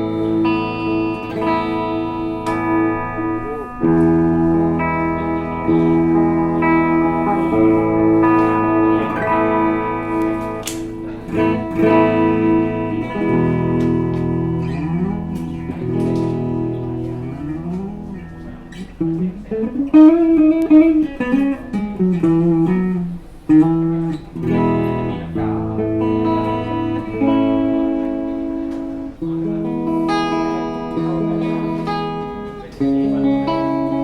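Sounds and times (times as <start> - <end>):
electric guitar playing: 0.0 - 34.0.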